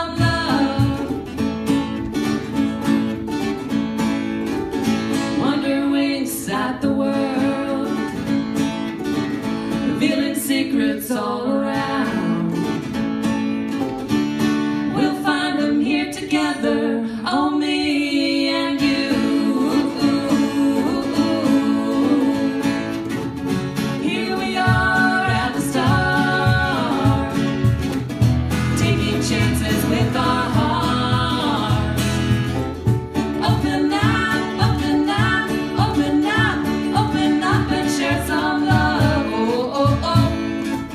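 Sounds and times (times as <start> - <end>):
person singing live: 0.0 - 1.4, 5.3 - 8.4, 9.7 - 12.9, 14.9 - 32.6, 33.2 - 40.9
guitar: 0.0 - 40.9.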